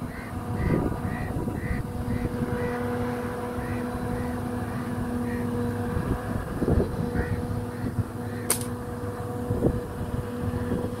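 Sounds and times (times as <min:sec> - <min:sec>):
wind buffeting microphone: 0:00.0 - 0:08.5, 0:09.3 - 0:11.0
low mechanical hum: 0:00.0 - 0:11.0.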